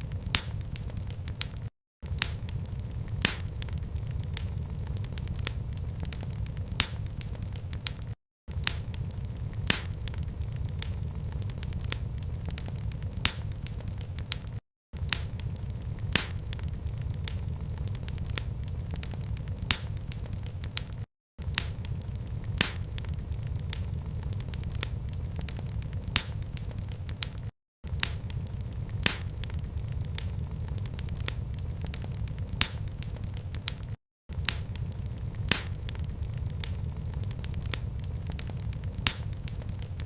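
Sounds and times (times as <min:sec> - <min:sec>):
low rumble of flames: 0:00.0 - 0:40.0
wood fire crackling: 0:00.0 - 0:40.0.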